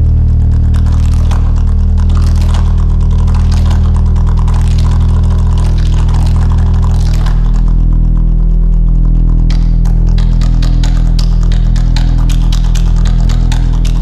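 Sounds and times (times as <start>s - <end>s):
deep bass drone: 0.0s - 14.0s
crackling rustling texture: 0.2s - 14.0s.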